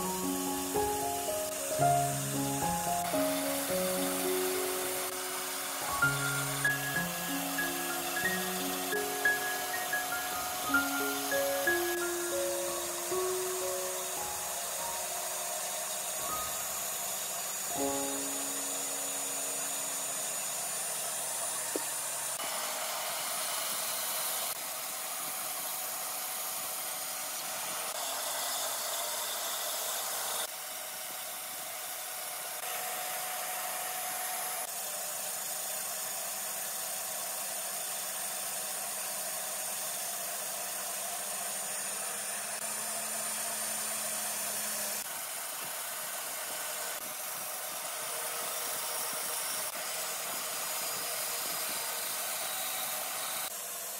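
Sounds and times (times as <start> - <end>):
band saw cutting wood: 0.0 - 53.9.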